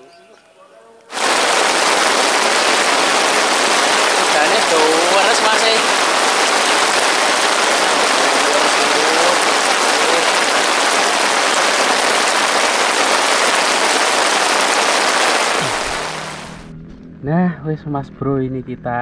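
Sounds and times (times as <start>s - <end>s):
hiss of falling water: 1.1s - 16.7s.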